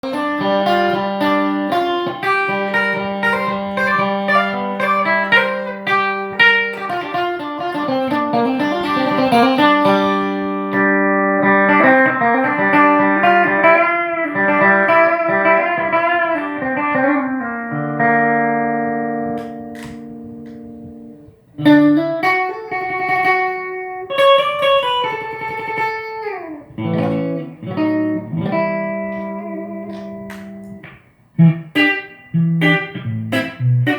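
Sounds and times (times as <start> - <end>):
electric guitar solo: 0.0 - 33.9.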